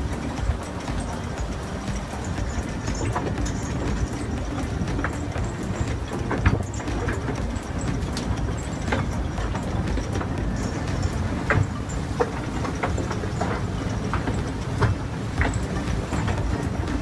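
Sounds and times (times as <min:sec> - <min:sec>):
excavator rumble and scrape: 0:00.0 - 0:17.0
sharp metal knocks and clanks: 0:00.0 - 0:17.0.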